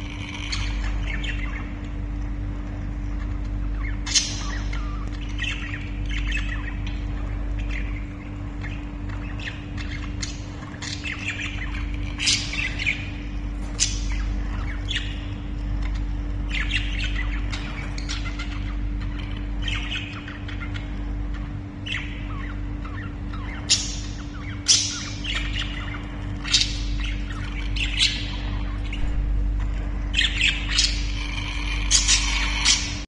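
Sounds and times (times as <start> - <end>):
budgerigars chattering: 0.0 - 1.8, 3.6 - 29.4, 30.1 - 33.0
low hum: 0.0 - 33.0.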